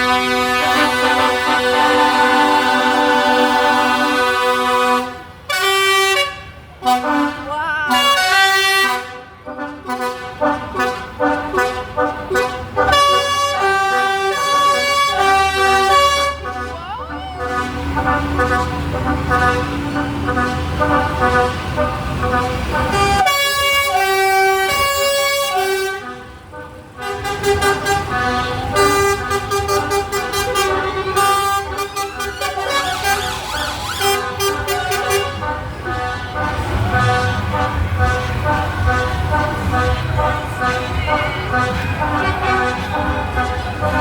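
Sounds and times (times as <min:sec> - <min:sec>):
low engine rumble: 0:00.0 - 0:44.0
musical horn playing a tune: 0:00.0 - 0:44.0.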